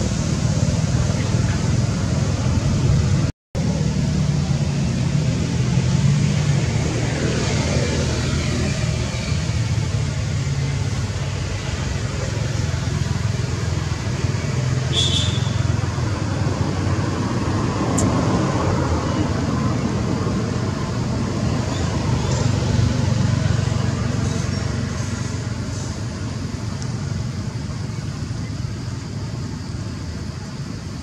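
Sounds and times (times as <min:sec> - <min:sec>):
low rumbling background noise: 0:00.0 - 0:31.0.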